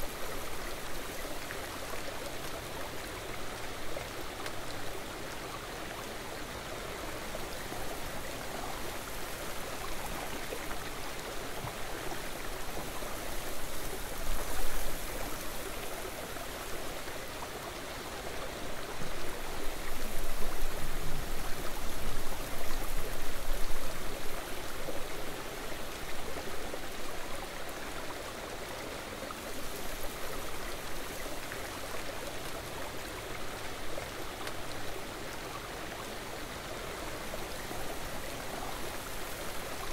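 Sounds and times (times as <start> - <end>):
flowing river water rushing: 0.0 - 39.9.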